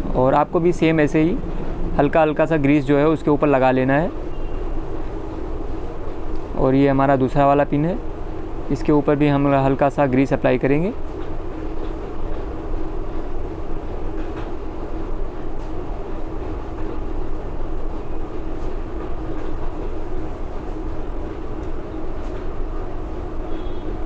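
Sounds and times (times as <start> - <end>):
mechanical hum and rumble: 0.0 - 24.0.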